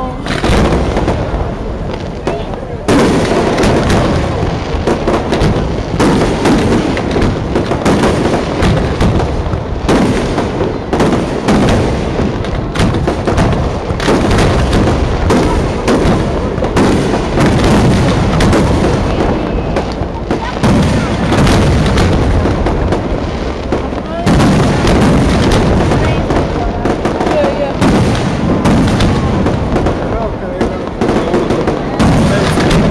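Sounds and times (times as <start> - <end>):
continuous rumble: 0.0 - 32.9
firework bangs: 0.0 - 32.9.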